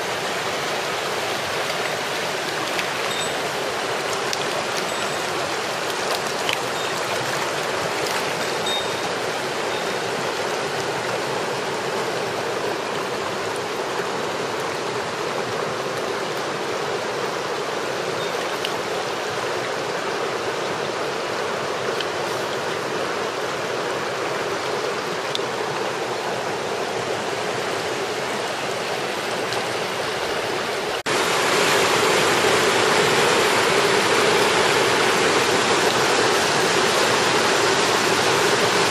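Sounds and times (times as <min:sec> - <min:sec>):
stream babbling: 0:00.0 - 0:38.9
white water rushing over rocks: 0:00.0 - 0:38.9.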